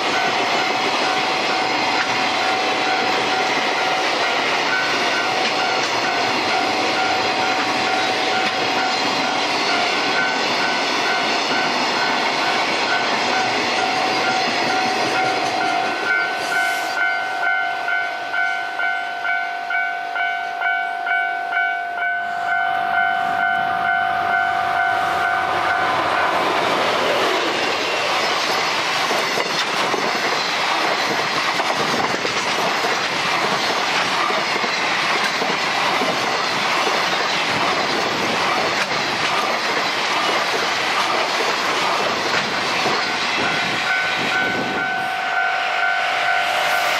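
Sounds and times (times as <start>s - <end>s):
level-crossing warning bell: 0.0s - 26.8s, 27.8s - 46.9s
train passing with clickety-clack: 0.0s - 46.9s.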